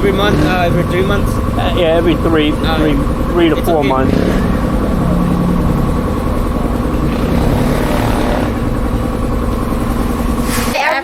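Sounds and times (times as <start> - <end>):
motorbike engine rumbling: 0.0 - 11.0.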